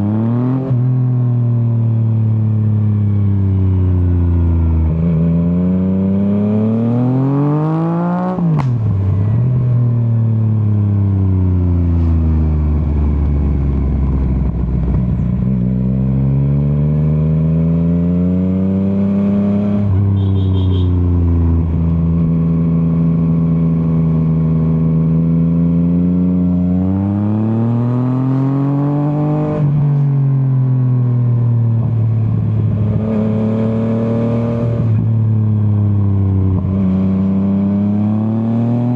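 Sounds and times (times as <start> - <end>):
motorcycle engine revving: 3.9 - 30.1, 30.7 - 38.9.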